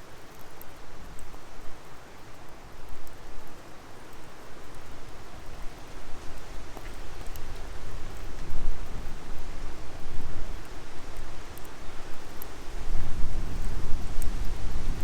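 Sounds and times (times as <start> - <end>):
fire crackles and pops: 0.1 - 15.0.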